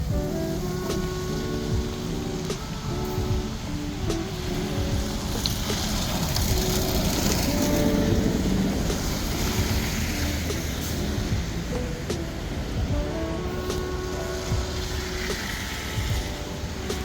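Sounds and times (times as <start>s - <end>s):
road traffic rumble: 0.0s - 17.0s
vehicle passing: 0.4s - 17.0s.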